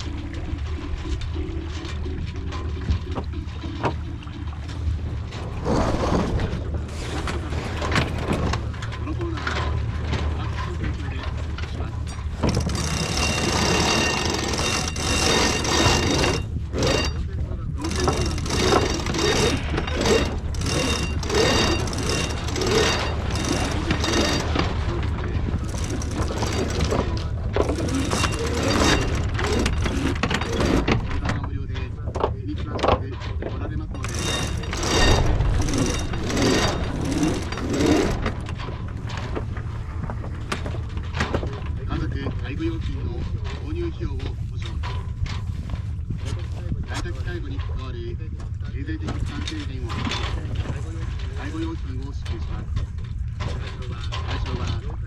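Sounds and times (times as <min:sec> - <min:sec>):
boat engine humming: 0:00.0 - 0:55.0
low rumble: 0:00.0 - 0:55.0
water rushing along hull: 0:00.0 - 0:55.0
wind: 0:00.0 - 0:55.0.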